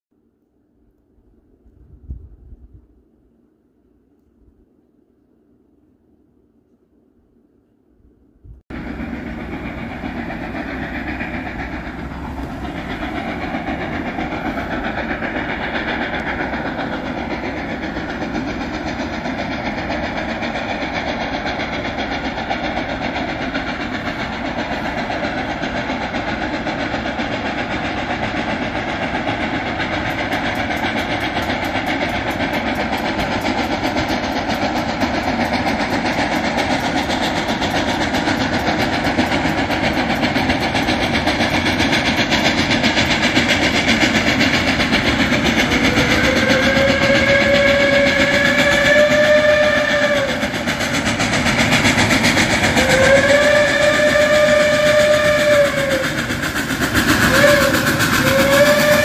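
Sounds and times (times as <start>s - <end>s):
freight train rumbling on rails: 0.2s - 59.0s.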